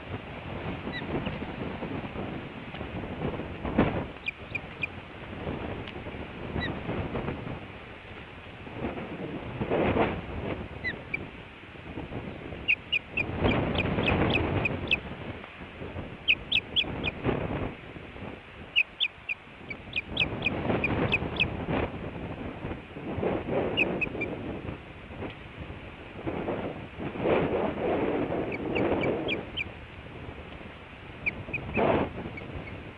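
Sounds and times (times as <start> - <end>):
wind gusting on microphone: 0.0 - 32.9.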